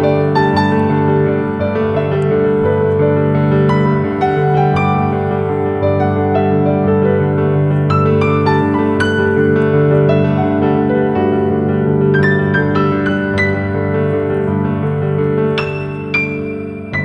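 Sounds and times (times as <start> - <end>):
keyboard background music: 0.0 - 17.0.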